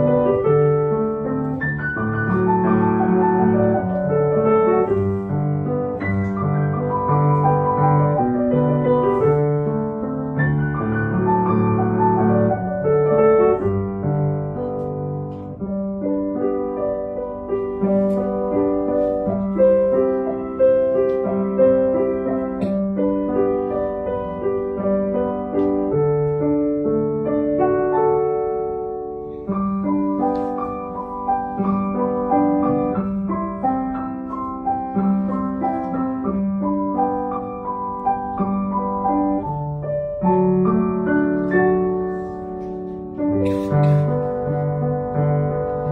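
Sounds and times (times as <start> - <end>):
solo piano: 0.0 - 45.9.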